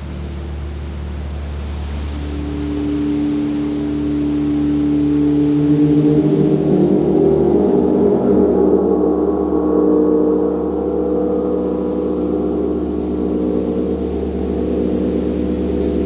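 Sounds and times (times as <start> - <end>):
gong ringing: 0.0 - 16.0.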